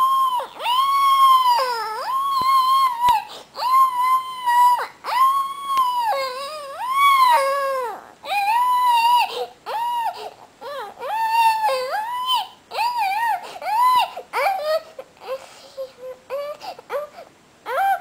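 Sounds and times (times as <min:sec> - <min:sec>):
young child crying: 0:00.0 - 0:18.0.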